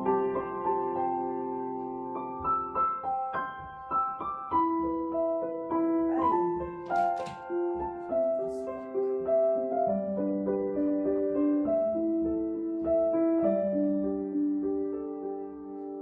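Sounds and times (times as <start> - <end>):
slow keyboard melody: 0.0 - 16.0.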